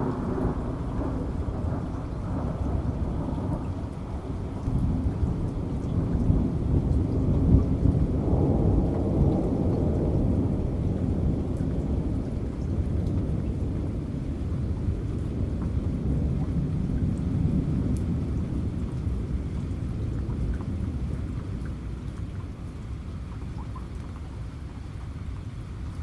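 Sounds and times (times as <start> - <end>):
rolling thunder: 0.0 - 21.7
steady rain: 0.0 - 26.0.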